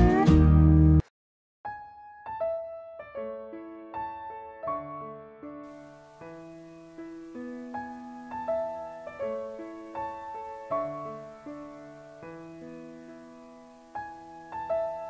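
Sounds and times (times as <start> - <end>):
gentle piano music: 1.7 - 15.0.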